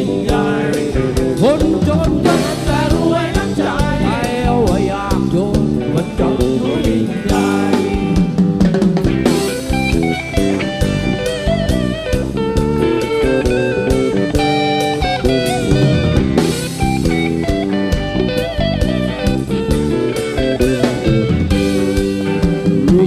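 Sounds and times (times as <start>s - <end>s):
bass guitar: 0.0s - 23.0s
drum kit: 0.0s - 23.0s
electric guitar lead: 0.0s - 23.0s.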